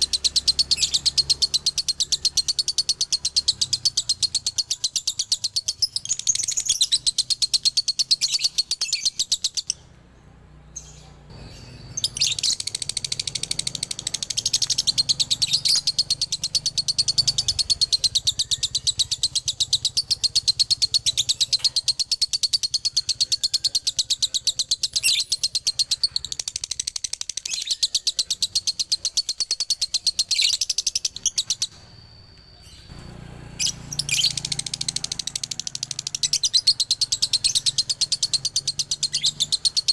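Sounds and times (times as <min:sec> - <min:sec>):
lovebird chattering: 0:00.0 - 0:09.8, 0:10.8 - 0:31.9, 0:32.5 - 0:39.9.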